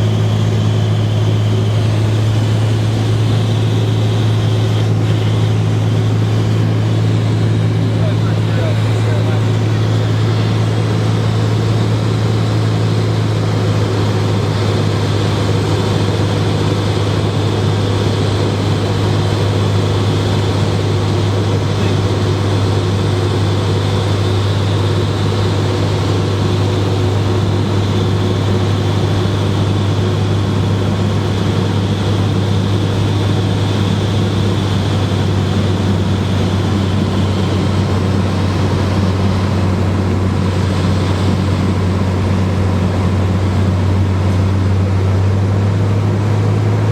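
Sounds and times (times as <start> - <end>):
propeller aircraft engine drone: 0.0 - 46.9.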